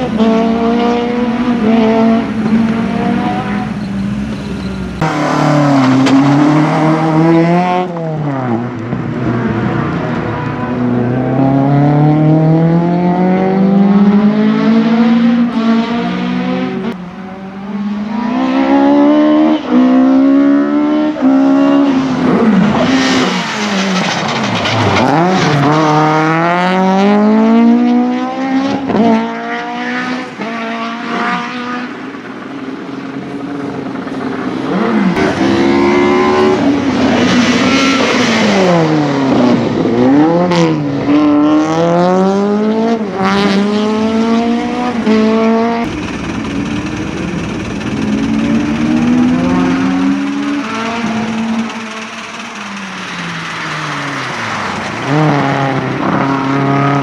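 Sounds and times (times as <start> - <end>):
racing car engine accelerating: 0.0 - 32.4, 33.1 - 57.0.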